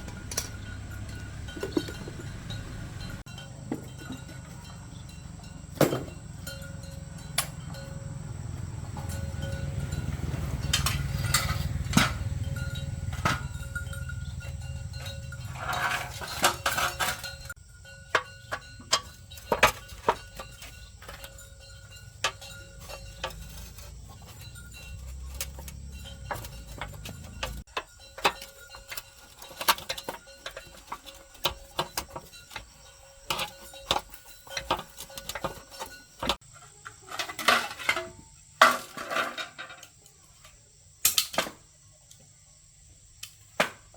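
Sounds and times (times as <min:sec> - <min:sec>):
metal tools clinking and tapping: 0:00.0 - 0:41.4.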